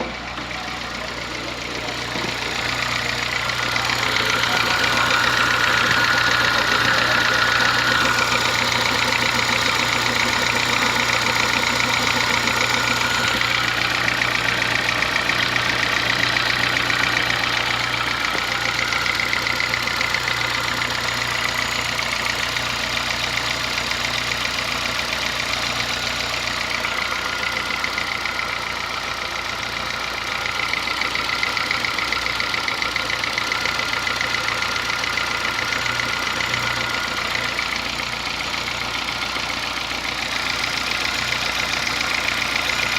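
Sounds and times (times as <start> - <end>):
car engine idling with clatter: 0.0 - 42.9.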